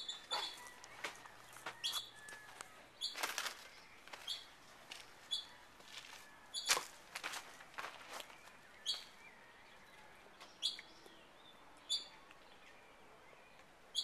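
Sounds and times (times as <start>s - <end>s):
bird chirping: 0.0s - 4.6s, 5.2s - 5.6s, 6.5s - 6.8s, 8.0s - 14.0s.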